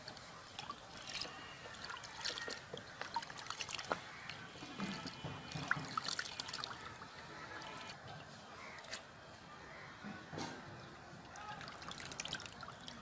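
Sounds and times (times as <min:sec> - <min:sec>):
small wet splashes and clicks: 0:00.0 - 0:09.1, 0:11.2 - 0:13.0
water sloshing in a bowl: 0:00.0 - 0:09.2, 0:11.2 - 0:13.0.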